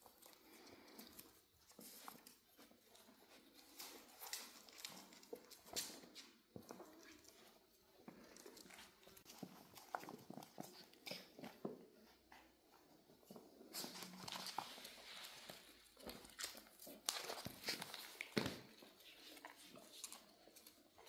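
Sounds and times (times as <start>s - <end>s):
puppies scuffling on rug: 0.0s - 21.0s.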